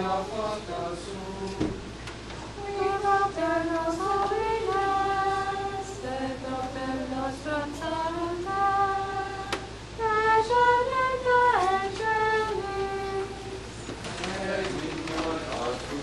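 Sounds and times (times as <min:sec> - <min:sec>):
choir singing church music: 0:00.0 - 0:01.8, 0:02.5 - 0:14.3.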